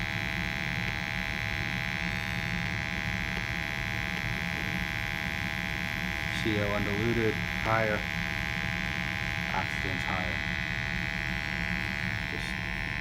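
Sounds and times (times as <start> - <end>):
furnace motor hum: 0.0 - 13.0
high whine: 0.0 - 13.0.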